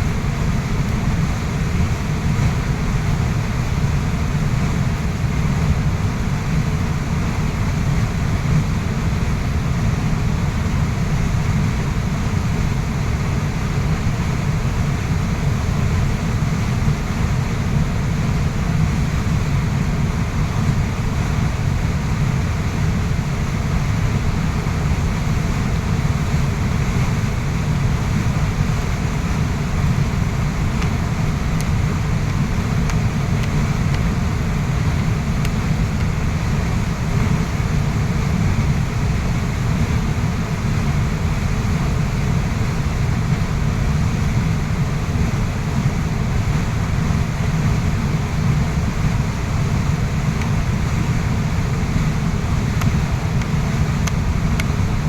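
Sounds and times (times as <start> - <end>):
waterfall rushing with deep rumble: 0.0 - 55.0.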